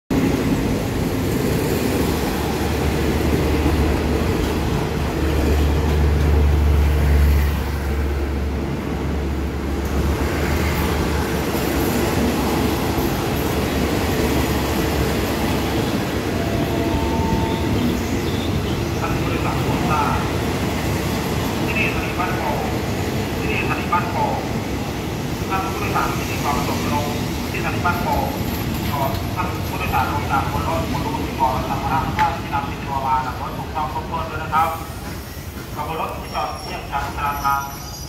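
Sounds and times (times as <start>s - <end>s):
train wheels rumbling on rail: 0.1s - 38.0s.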